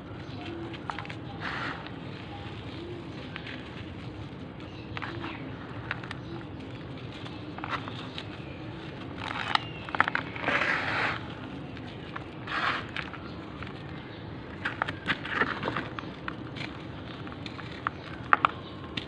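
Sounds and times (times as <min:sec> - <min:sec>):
dry block crumbling and crunching: 0:00.1 - 0:19.0.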